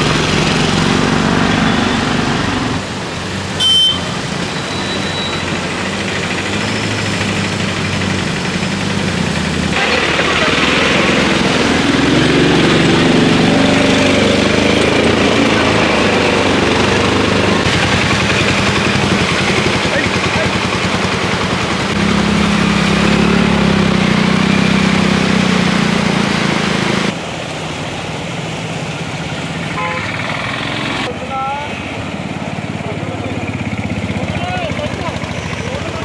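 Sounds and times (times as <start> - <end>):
auto-rickshaw engines running: 0.0 - 36.0
water splashing around wheels: 0.0 - 36.0.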